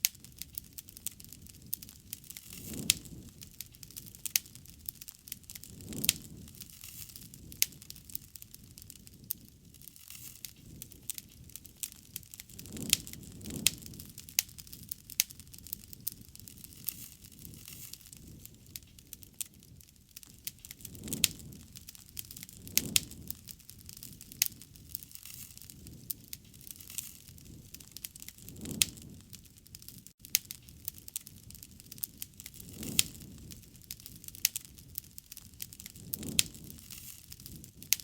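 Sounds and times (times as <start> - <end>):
low swells under crackle: 0.0 - 38.0
wood fire crackling and popping: 0.0 - 38.0.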